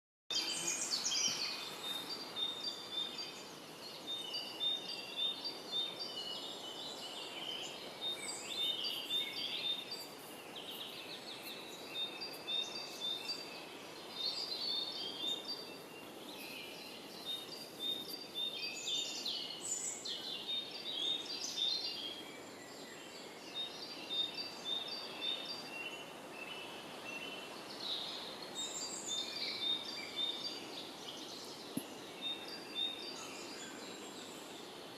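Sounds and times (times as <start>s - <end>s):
background hiss: 0.3s - 34.9s
songbird singing: 0.3s - 34.9s.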